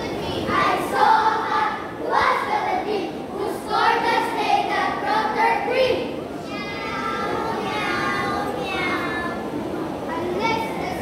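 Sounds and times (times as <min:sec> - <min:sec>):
children chanting: 0:00.0 - 0:09.5.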